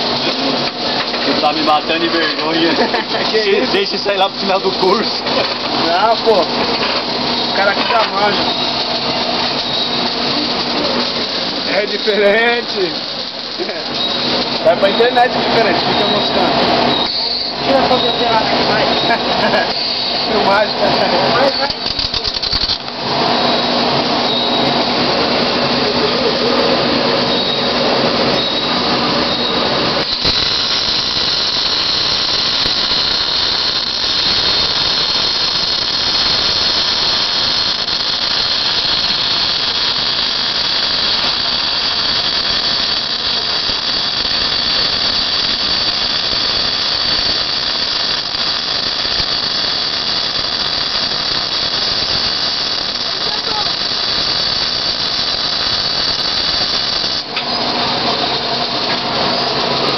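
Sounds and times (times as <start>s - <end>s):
welding arc sizzling and crackling: 0.0s - 59.9s.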